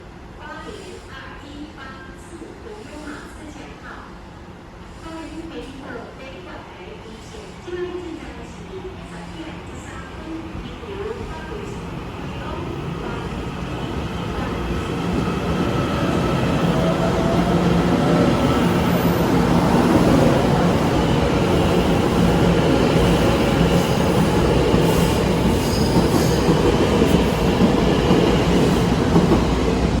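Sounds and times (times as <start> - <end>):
train wheel and running noise: 0.1 - 30.0.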